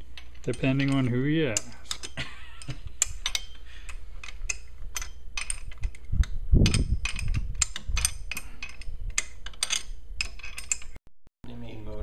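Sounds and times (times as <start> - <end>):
metallic clicks of hand tools: 0.2 - 11.0.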